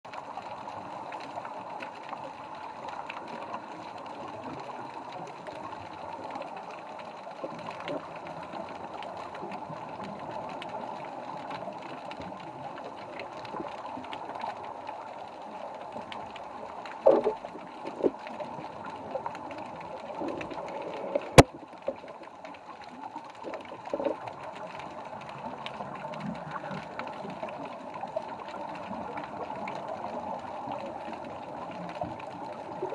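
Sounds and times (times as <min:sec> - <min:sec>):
underwater hiss with crackling: 0:00.1 - 0:32.9.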